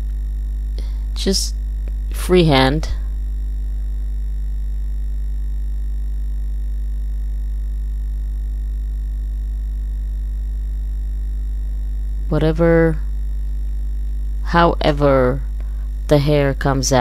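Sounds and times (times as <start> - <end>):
electrical hum with buzz: 0.0 - 17.0.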